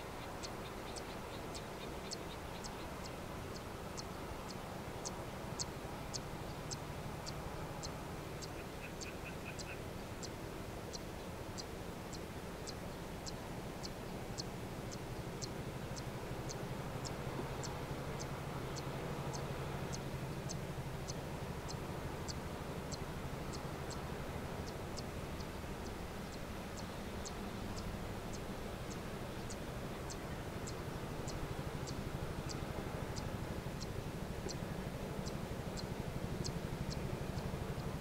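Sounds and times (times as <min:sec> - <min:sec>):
distant engine drone: 0:00.0 - 0:38.0.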